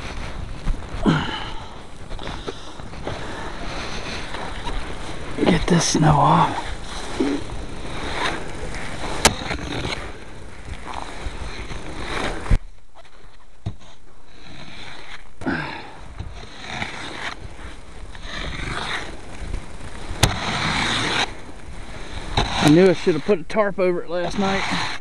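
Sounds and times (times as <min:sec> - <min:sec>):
snow being scraped and swept: 0:00.0 - 0:25.0.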